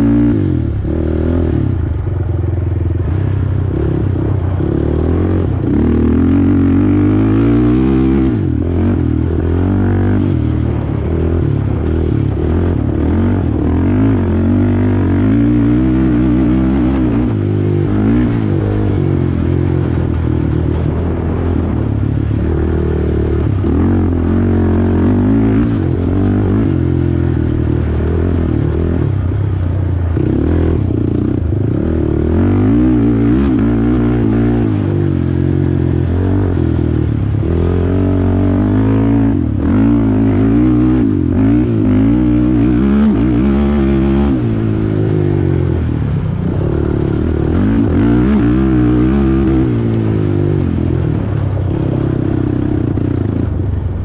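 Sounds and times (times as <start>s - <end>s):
quad engine revving: 0.0s - 2.1s, 3.0s - 53.6s.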